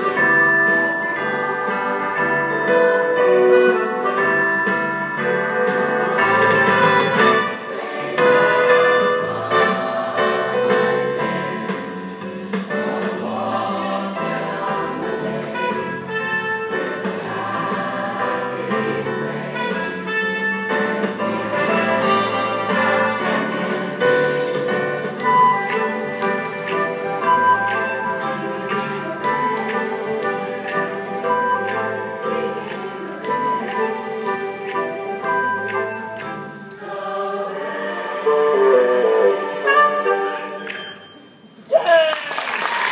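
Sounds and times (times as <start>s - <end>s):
children's choir singing: 0.0s - 41.6s.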